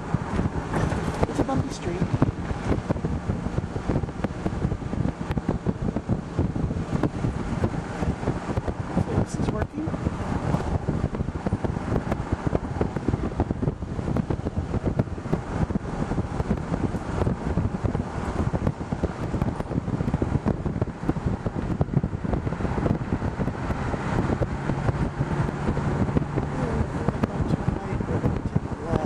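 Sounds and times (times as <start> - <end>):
engine and road rumble: 0.0 - 29.0
wind crackle on microphone: 0.0 - 29.0.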